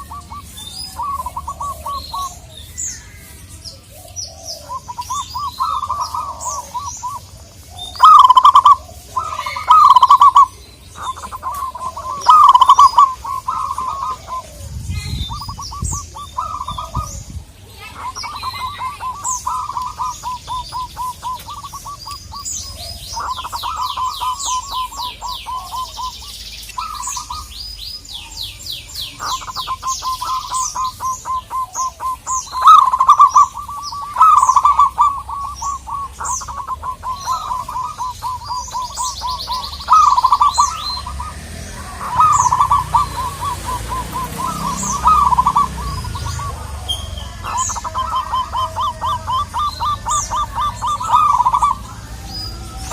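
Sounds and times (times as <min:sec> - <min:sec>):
doves cooing rapidly: 0:00.0 - 0:52.9
small birds chirping and trilling: 0:00.0 - 0:52.9.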